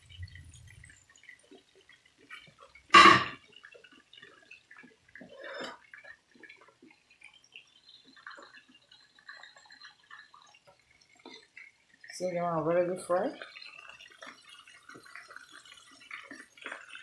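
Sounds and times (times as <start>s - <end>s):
chicken frying crackling in oil: 0.0s - 17.0s.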